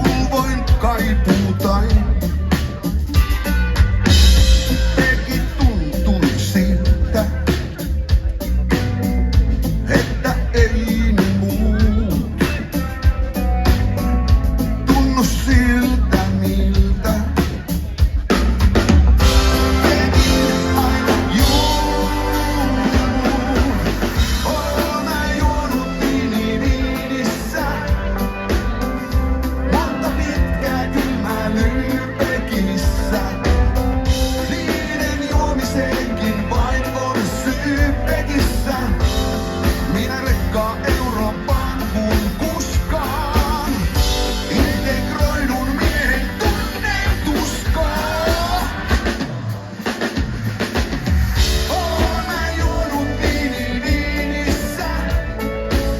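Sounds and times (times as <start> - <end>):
lead singer singing: 0.0 - 3.5, 4.1 - 55.9
rock and roll band playing: 0.0 - 55.9.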